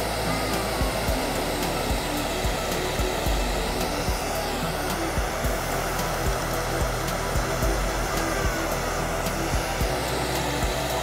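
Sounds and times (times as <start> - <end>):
background music with low thumps: 0.0 - 11.0
gas torch flame hissing: 0.0 - 11.0.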